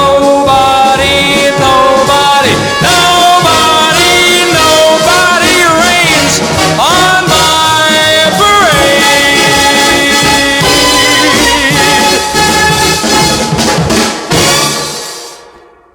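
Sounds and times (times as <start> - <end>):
big band with brass playing: 0.0 - 15.9.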